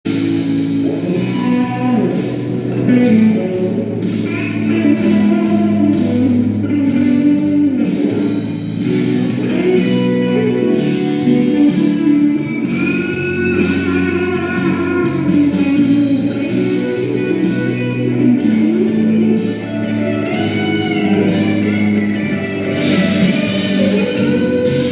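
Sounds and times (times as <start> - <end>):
electric guitar rock melody: 0.1 - 24.9.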